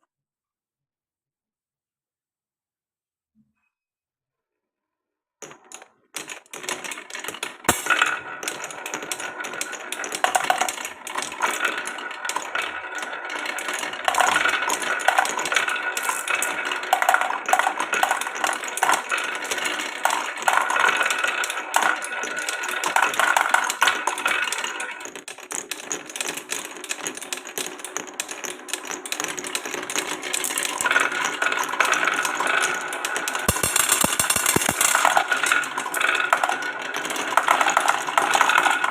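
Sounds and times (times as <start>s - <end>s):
marbles rolling in a wooden run: 5.4s - 38.9s.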